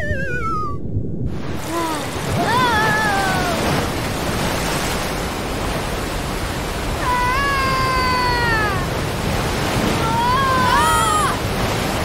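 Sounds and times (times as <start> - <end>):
cartoon rushing water: 0.0 - 12.0.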